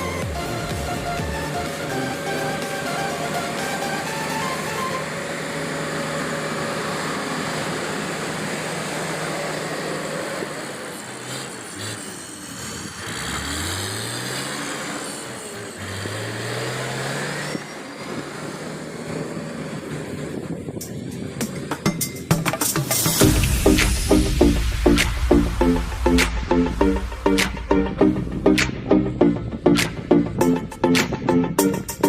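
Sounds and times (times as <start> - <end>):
diesel engine running and revving: 0.0 - 32.0.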